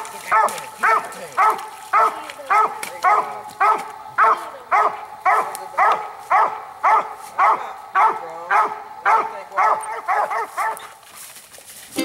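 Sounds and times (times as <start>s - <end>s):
dog barking loudly: 0.1s - 11.0s.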